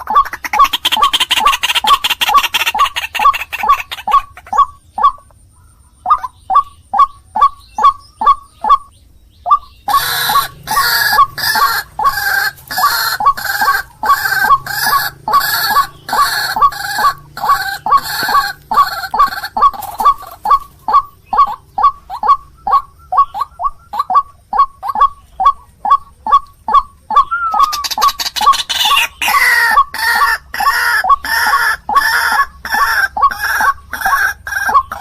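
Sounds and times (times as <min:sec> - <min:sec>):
waterhen calling harsh notes: 0:00.0 - 0:05.2, 0:09.5 - 0:35.0
overlapping rough bird calls: 0:00.0 - 0:35.0.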